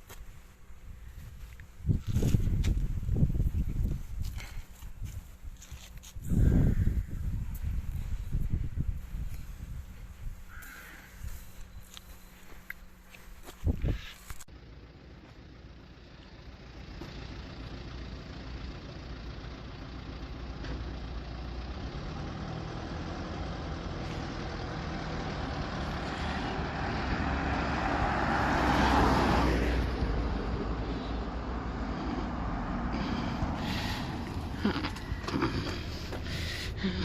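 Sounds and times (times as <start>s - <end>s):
motor vehicle running: 0.0s - 37.0s.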